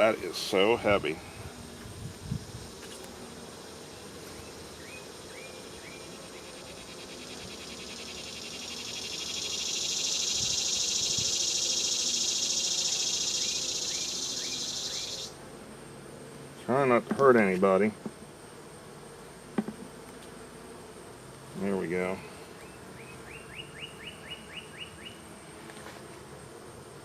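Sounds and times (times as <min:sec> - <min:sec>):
high pulsing insect buzz: 0:00.0 - 0:27.0
honeybees humming: 0:00.0 - 0:27.0.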